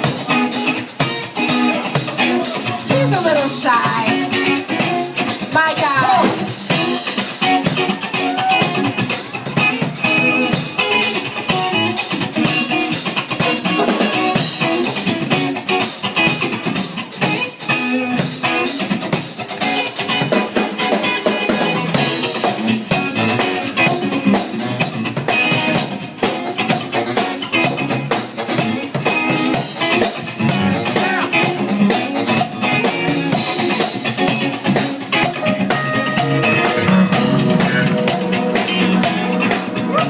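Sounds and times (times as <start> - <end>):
drum kit steady beat: 0.0 - 40.0
electric guitar playing funk: 0.0 - 40.0.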